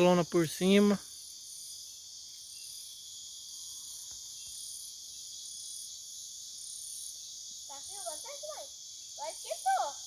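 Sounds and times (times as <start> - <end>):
high insect chirp: 0.0 - 10.0
insects chirring: 0.0 - 10.0.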